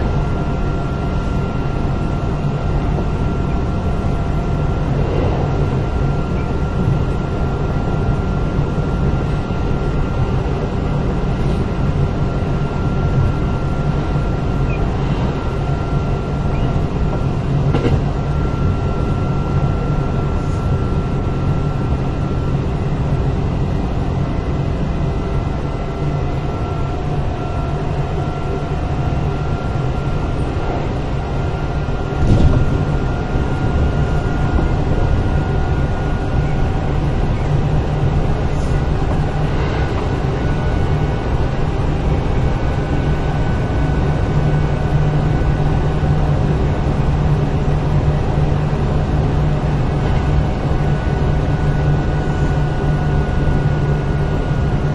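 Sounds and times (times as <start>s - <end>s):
electric train running drone: 0.0s - 54.9s.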